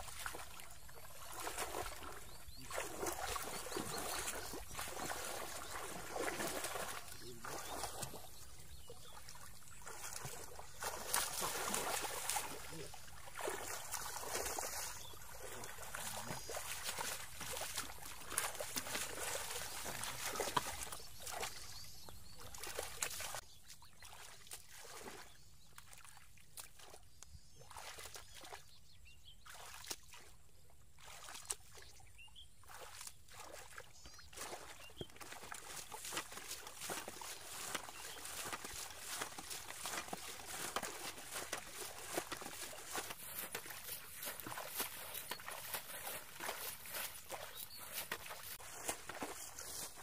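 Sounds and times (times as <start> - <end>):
hands splashing in muddy water: 0.0 - 23.4, 32.6 - 50.0.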